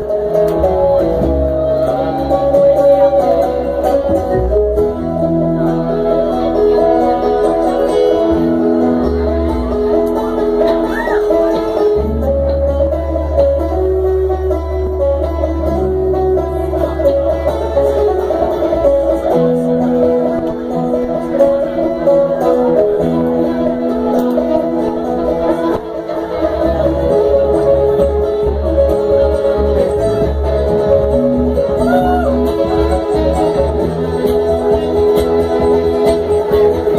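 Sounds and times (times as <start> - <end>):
acoustic guitar: 0.0 - 36.9
fiddle: 0.0 - 36.9
picked banjo: 0.0 - 36.9
upright bass notes: 0.0 - 36.9.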